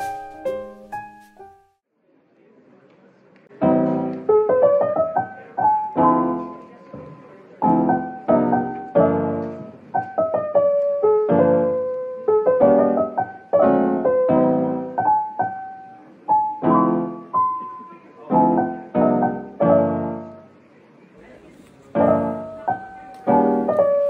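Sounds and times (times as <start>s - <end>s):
gentle piano melody: 0.0s - 1.8s, 3.5s - 20.6s, 21.3s - 24.0s.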